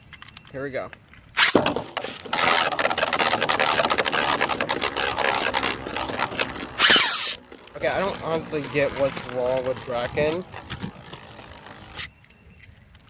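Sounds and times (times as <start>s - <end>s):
spinning tops whirring and clashing: 1.4s - 12.1s.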